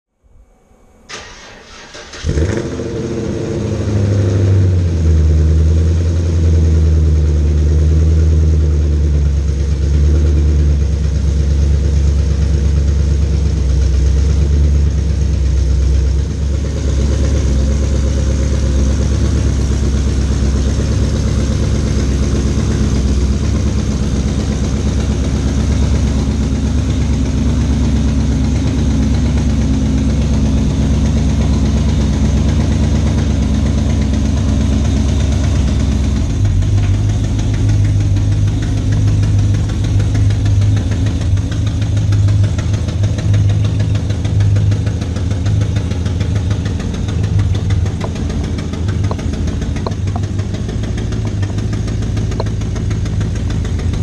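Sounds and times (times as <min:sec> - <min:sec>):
car engine starting and idling: 0:00.9 - 0:54.0.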